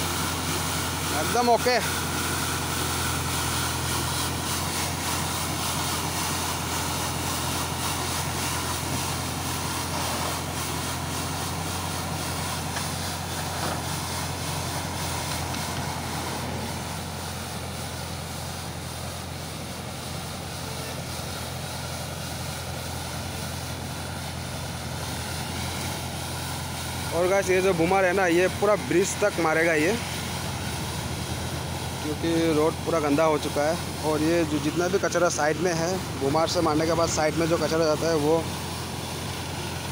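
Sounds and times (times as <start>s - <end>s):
rotary brush scrubbing asphalt: 0.0s - 17.7s, 23.7s - 39.9s
tractor diesel engine running: 0.0s - 39.9s.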